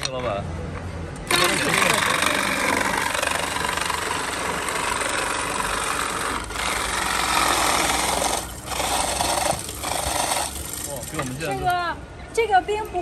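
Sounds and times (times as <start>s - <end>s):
ice crusher grinding ice: 1.3s - 11.8s.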